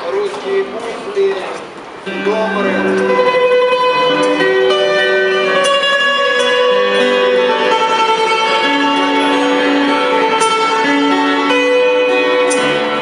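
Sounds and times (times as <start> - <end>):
harp-lute plucked melody: 2.0 - 13.0.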